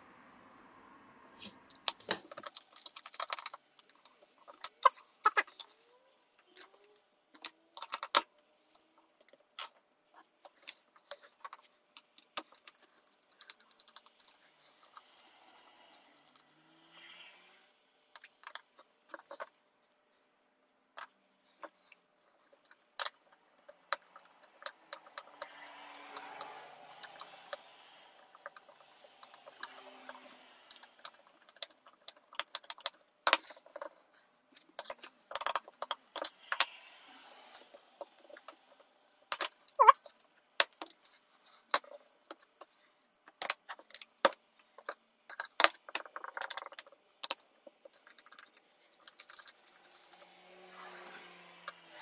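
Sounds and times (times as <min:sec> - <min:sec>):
metallic ticks of small parts: 0:01.7 - 0:17.0, 0:18.0 - 0:19.5, 0:21.0 - 0:52.0.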